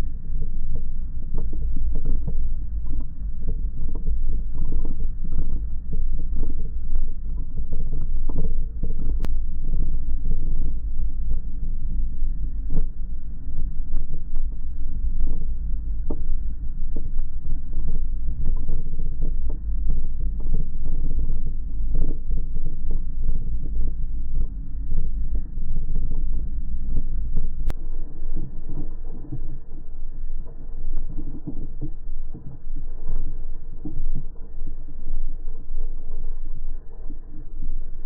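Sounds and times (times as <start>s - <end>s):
deep continuous rumble: 0.0s - 38.0s.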